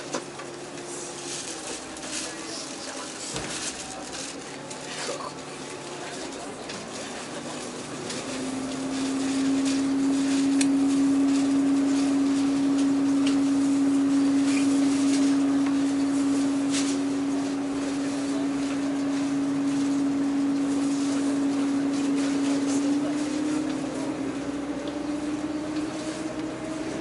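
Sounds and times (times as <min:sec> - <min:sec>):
train diesel engine drone: 0:00.0 - 0:27.0.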